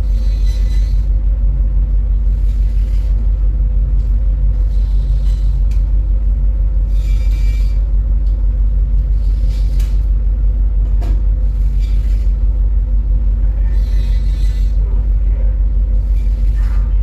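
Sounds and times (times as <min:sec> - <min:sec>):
heavy machinery rumbling: 0:00.0 - 0:17.0
low machinery hum: 0:00.0 - 0:17.0.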